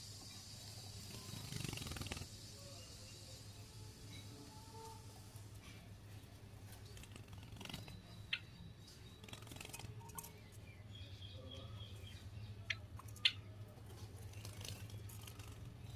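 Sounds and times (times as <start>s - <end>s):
sparrows chirping: 0.0s - 4.4s, 5.1s - 15.9s
faint steady hum: 0.0s - 15.9s.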